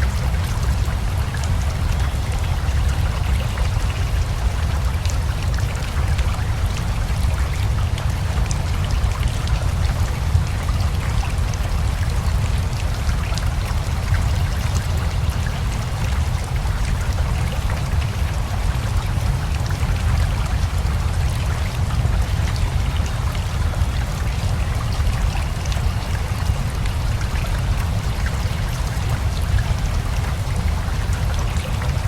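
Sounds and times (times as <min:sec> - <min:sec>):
river water flowing: 0:00.0 - 0:32.0
steady rain: 0:00.0 - 0:32.0.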